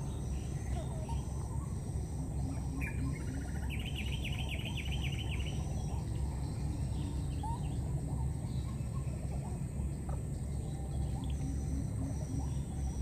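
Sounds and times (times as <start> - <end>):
constant high whine: 0.0 - 13.0
small bird calling and trilling: 0.0 - 13.0.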